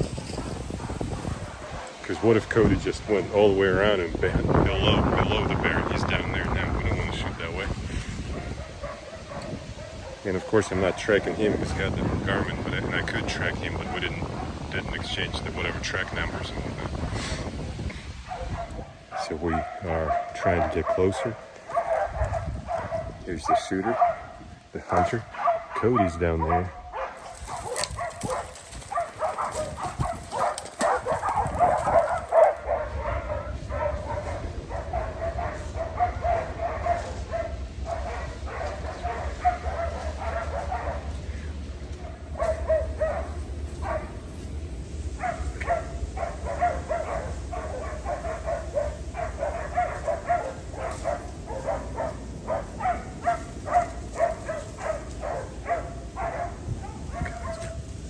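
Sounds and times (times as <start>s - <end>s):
dogs barking: 0.0s - 58.0s.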